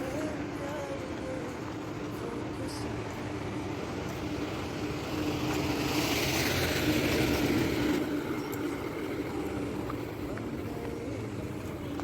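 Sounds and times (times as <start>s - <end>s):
steady traffic hum: 0.0s - 12.0s
vehicle passing: 1.8s - 12.0s.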